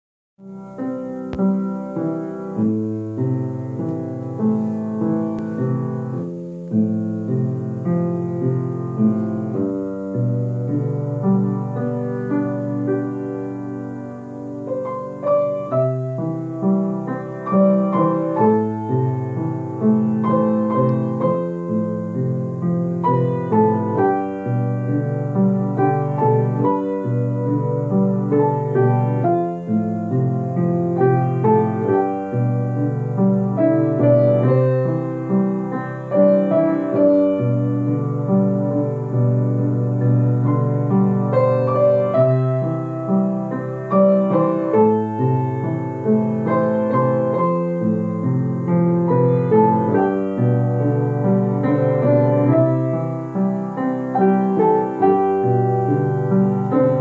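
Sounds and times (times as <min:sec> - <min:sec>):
piano duet: 0:00.4 - 0:57.0.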